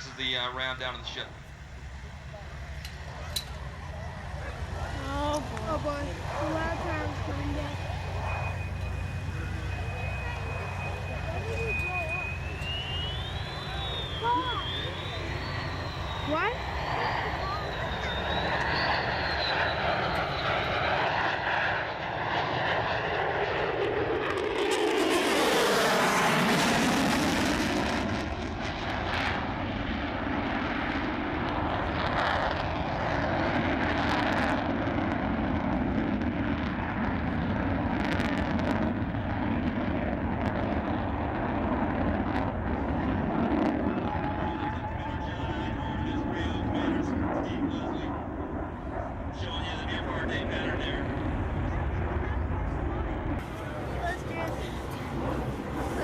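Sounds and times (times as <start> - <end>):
jet passing by: 0.0 - 56.0.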